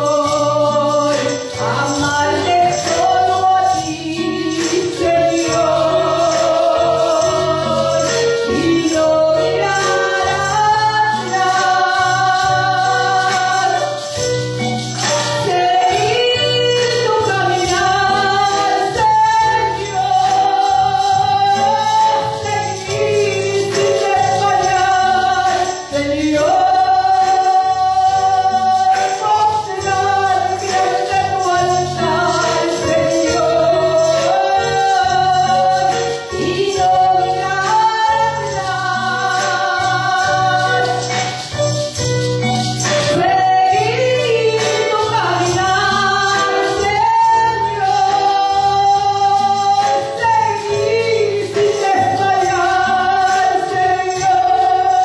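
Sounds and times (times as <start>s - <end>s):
woman singing worship song: 0.0s - 42.0s, 42.7s - 55.0s
musical accompaniment: 0.0s - 55.0s.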